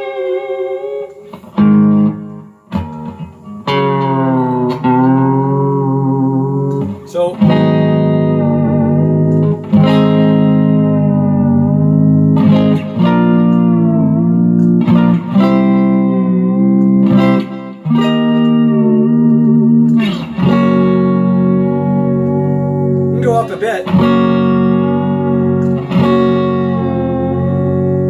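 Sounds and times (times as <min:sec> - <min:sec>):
electric guitar chords ringing: 0:00.0 - 0:28.0.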